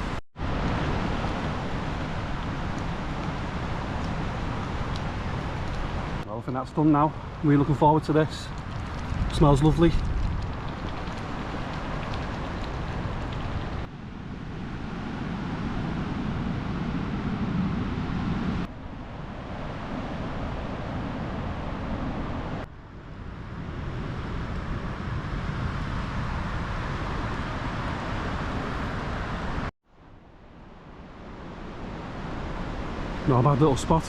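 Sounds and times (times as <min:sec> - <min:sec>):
wind buffeting the microphone: 0:00.0 - 0:29.7
strong wind through pine trees: 0:00.0 - 0:34.0.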